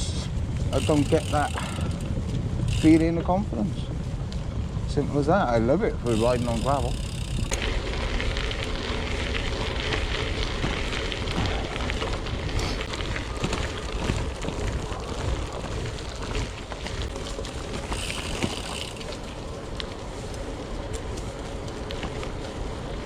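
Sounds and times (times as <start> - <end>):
bike tyres crunching on gravel: 0.0 - 23.0
wind buffeting microphone: 0.0 - 23.0
small clicks and rattles: 0.7 - 3.1, 6.1 - 22.4.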